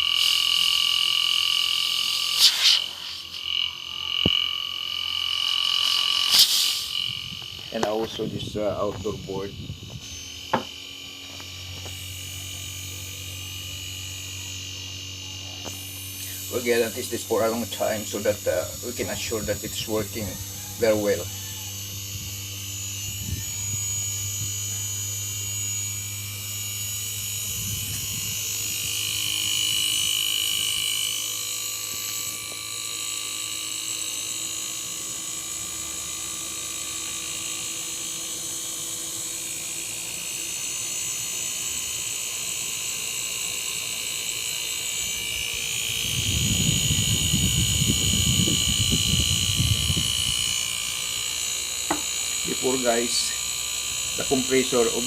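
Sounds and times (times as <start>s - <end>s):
air conditioner hum: 0.0s - 40.2s, 44.7s - 55.0s
high electronic whine: 0.0s - 55.0s.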